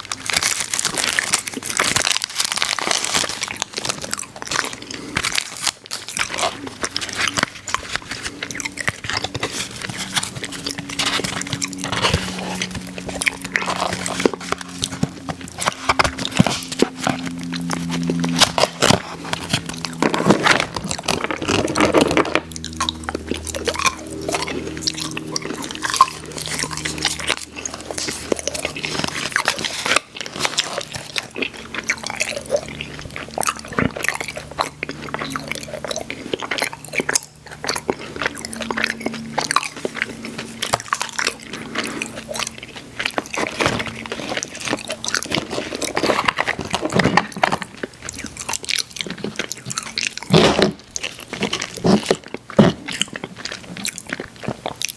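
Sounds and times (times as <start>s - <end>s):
chewing candy mouth sounds: 0.0s - 54.9s.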